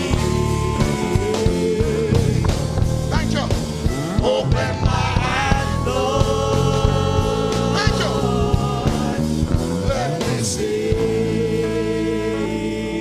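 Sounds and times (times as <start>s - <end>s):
singing with long held notes: 0.0s - 2.6s, 4.2s - 13.0s
steady music beat: 0.0s - 12.0s.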